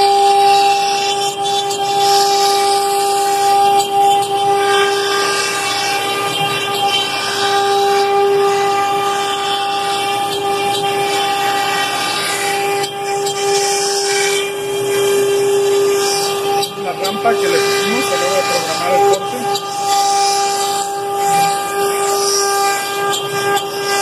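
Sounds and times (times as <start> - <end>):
router spindle whining: 0.0 - 24.0.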